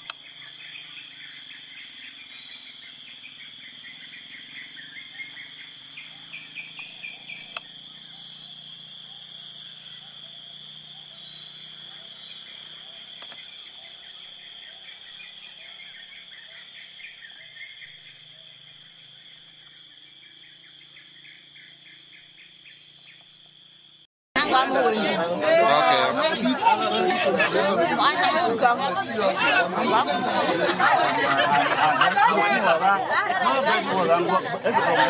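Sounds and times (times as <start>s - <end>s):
birds chirping: 0.0s - 35.0s
insects droning: 0.0s - 35.0s.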